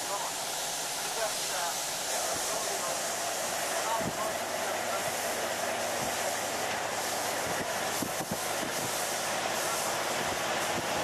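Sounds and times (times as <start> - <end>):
locomotive engine running: 0.0 - 11.0.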